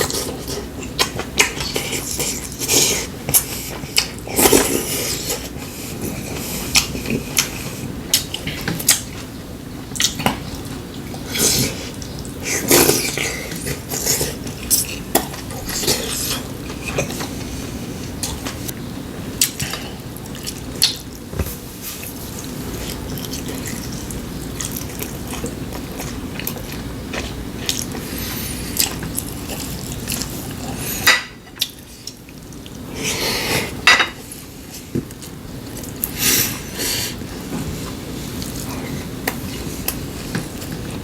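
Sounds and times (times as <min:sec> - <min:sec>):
steady background noise: 0:00.0 - 0:41.0.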